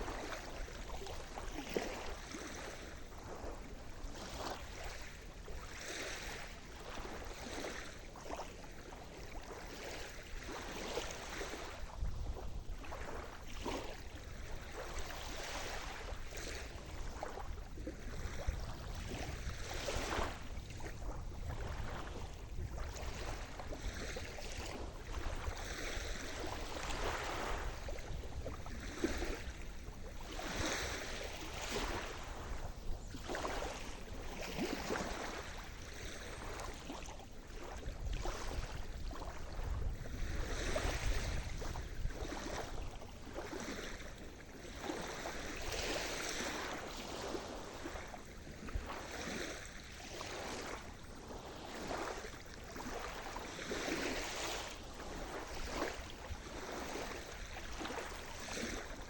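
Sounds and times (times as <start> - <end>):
small waves breaking: 0.0 - 59.0.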